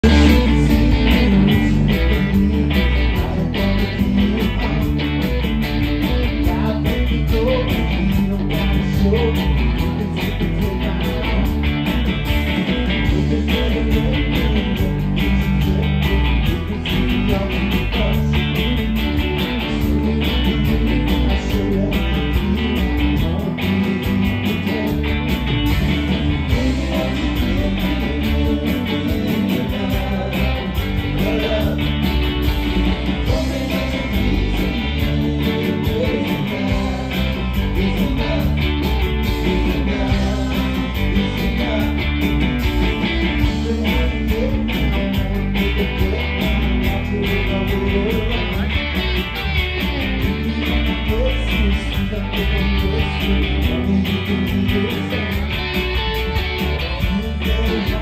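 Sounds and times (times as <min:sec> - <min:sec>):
drum kit: 0:00.0 - 0:58.0
electric guitars: 0:00.0 - 0:58.0
live rock band playing: 0:00.0 - 0:58.0.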